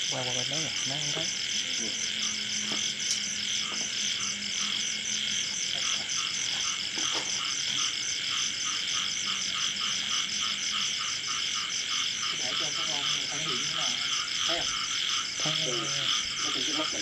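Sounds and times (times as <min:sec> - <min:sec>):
frog croaking: 0:00.0 - 0:17.0
insects shrilling: 0:00.1 - 0:17.0.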